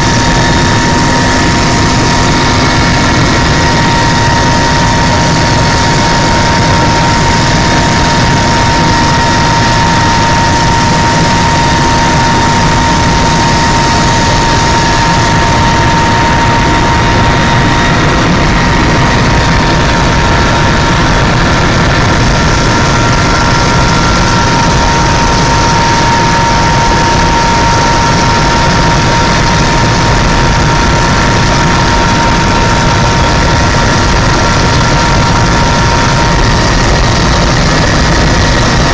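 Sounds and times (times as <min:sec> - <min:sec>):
helicopter engine noise: 0:00.0 - 0:38.9
high whine: 0:00.0 - 0:38.9.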